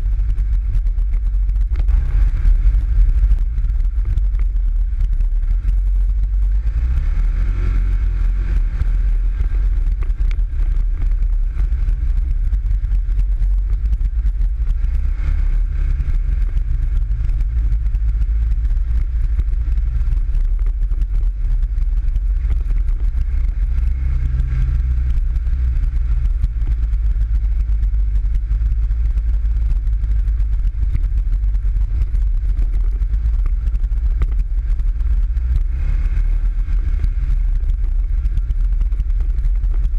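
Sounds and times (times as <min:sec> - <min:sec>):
buggy engine droning: 0:00.0 - 0:39.9.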